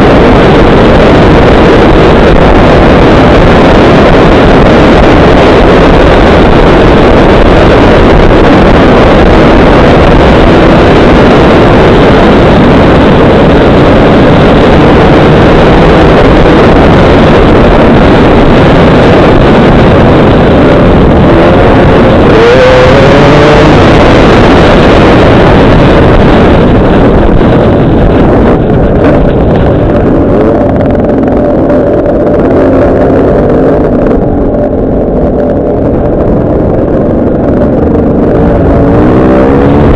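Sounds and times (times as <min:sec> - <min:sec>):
dirt bike engine running hard: 0:00.0 - 0:39.9
wind rushing over microphone: 0:00.0 - 0:39.9.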